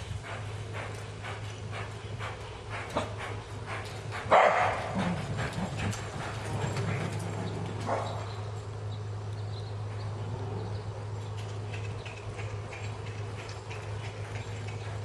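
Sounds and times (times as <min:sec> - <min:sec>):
horse hoofbeats: 0:00.0 - 0:09.0, 0:09.7 - 0:15.0
steady low hum: 0:00.0 - 0:15.0.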